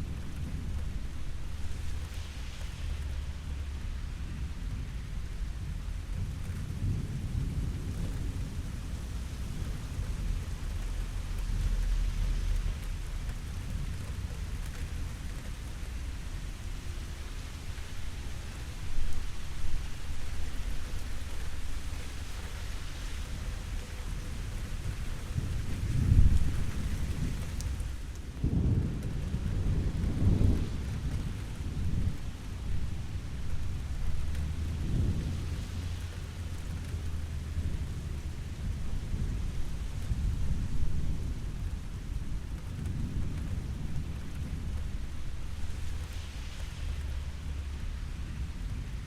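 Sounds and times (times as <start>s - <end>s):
low rolls of thunder: 0.0s - 49.0s
steady rain falling: 0.0s - 49.0s.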